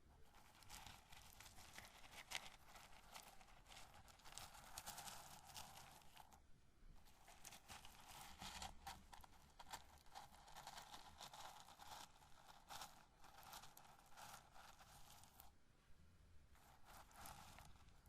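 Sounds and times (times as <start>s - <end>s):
fingers rubbing corn kernels: 0.3s - 6.4s, 7.1s - 15.6s, 16.6s - 18.0s.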